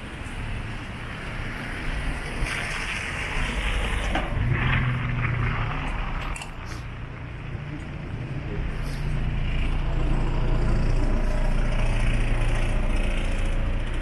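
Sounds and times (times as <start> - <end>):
engine humming nearby: 0.0 - 14.0
street traffic: 0.0 - 14.0.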